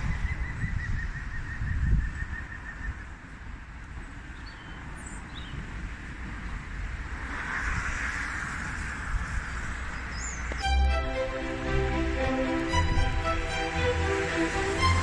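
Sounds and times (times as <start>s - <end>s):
street traffic hiss and rumble: 0.0s - 15.0s.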